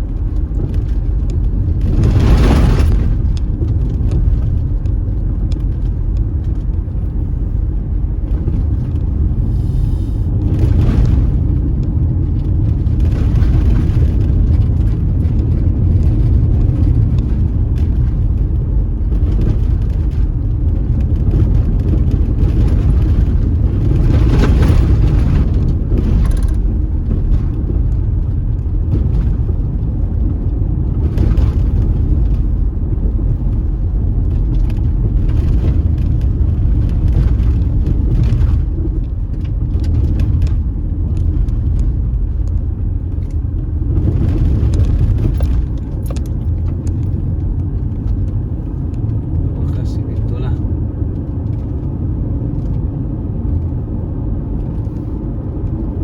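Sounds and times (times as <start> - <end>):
car driving on unpaved road: 0.0 - 56.0.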